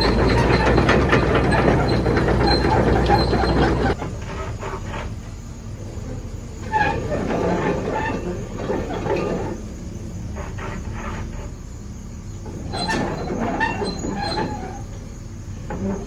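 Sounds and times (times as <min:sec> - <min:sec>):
excavator rumble: 0:00.0 - 0:16.0
metallic squeals and clanks: 0:00.0 - 0:16.0.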